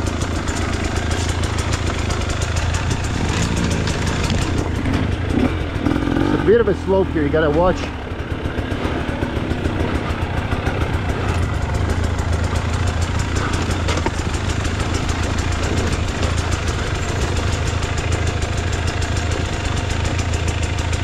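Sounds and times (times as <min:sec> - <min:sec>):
dirt bike engine idling: 0:00.0 - 0:21.0.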